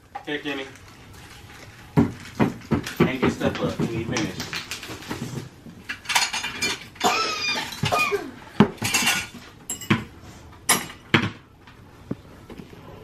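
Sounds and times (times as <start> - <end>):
hard objects clattering: 0.0 - 11.8.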